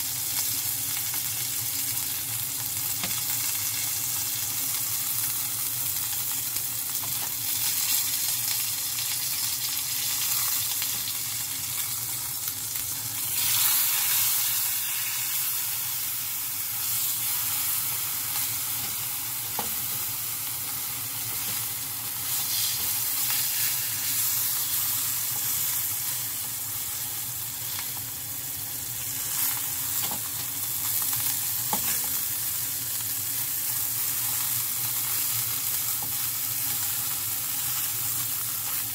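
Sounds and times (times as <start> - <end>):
meat sizzling in a frying pan: 0.0 - 38.9.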